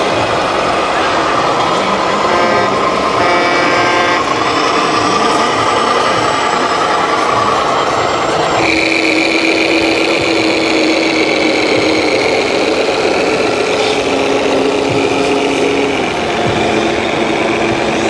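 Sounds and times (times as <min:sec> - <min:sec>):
diesel truck engine sound: 0:00.0 - 0:18.0.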